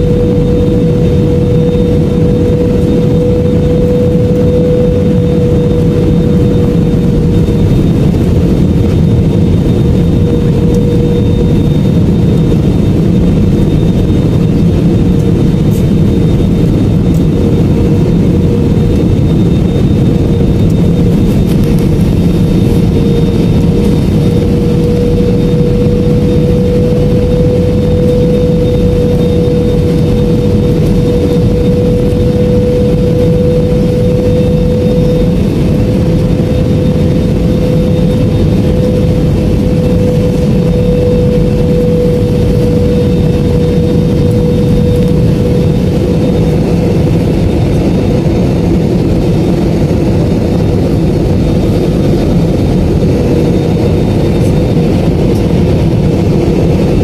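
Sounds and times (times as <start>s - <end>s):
constant cabin hum: 0.0s - 57.0s
jet engine and airflow rush: 0.0s - 57.0s.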